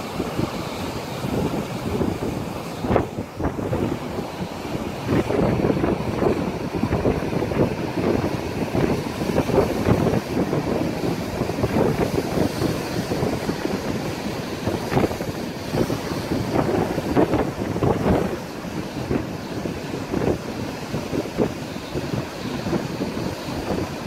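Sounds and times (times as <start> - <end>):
surf breaking on rocks: 0.0 - 24.0
wind buffeting microphone: 0.0 - 24.0.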